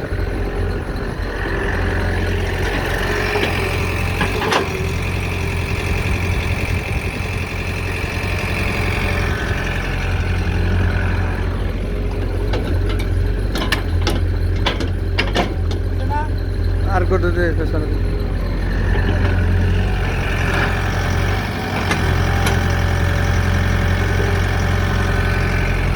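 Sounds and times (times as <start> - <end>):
diesel engine running: 0.0 - 25.9
hydraulic whine: 0.0 - 25.9.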